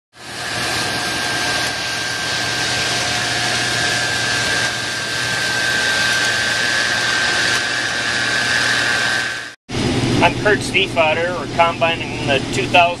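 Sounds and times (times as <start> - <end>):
combine harvester drone: 0.2 - 13.0
high machine whine: 0.2 - 13.0.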